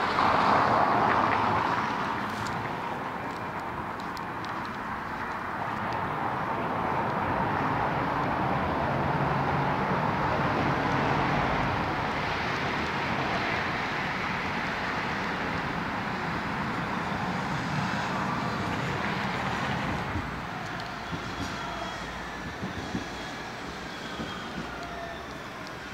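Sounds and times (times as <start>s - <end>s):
city street traffic: 0.0s - 25.9s.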